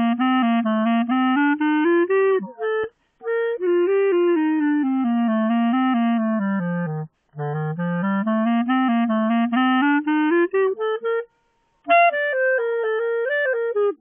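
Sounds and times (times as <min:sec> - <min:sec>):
clarinet playing fast notes: 0:00.0 - 0:14.0.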